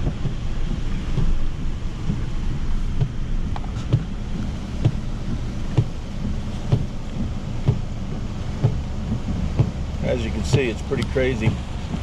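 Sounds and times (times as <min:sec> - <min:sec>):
regular thud: 0:00.0 - 0:08.0, 0:08.6 - 0:12.0.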